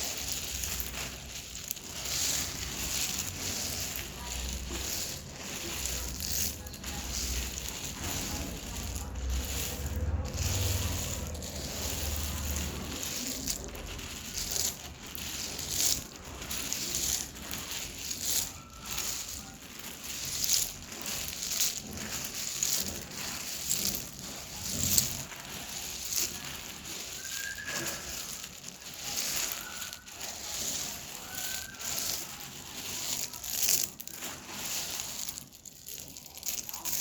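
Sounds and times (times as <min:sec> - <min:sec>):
clay crunching: 0:00.0 - 0:37.0.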